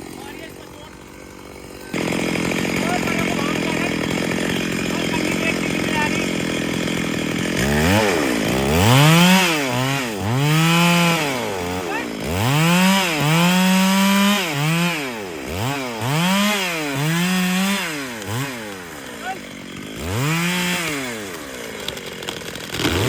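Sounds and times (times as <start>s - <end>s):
chainsaw engine revving: 0.0s - 23.0s.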